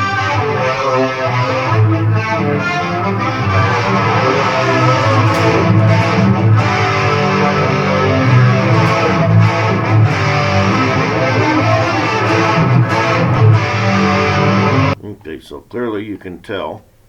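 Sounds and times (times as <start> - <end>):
layered guitars with reverb: 0.0 - 15.0.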